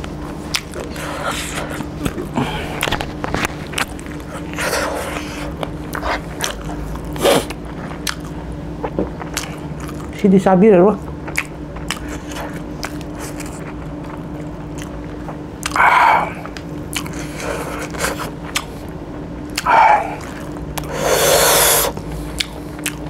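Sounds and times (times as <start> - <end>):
chewing and crunching: 0.0 - 23.0.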